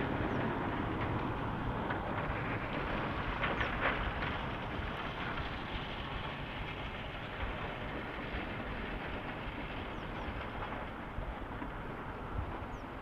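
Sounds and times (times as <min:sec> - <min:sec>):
diesel engine rumble: 0:00.0 - 0:13.0
plow pushing snow: 0:00.0 - 0:13.0.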